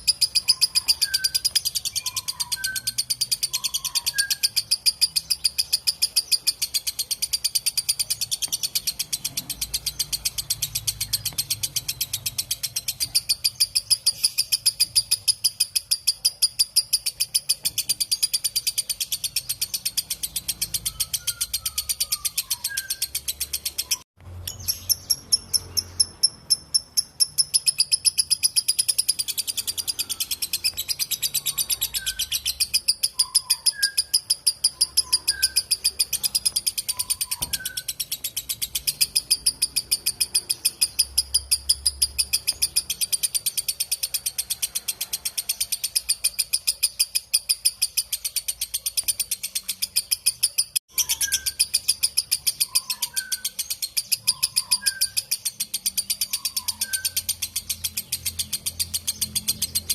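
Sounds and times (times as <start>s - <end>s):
lovebird rapid high chatter: 0.0s - 59.9s.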